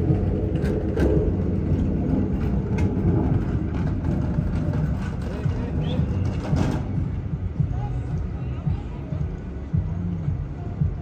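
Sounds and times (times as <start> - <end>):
low rumble of passing traffic: 0.0 - 11.0.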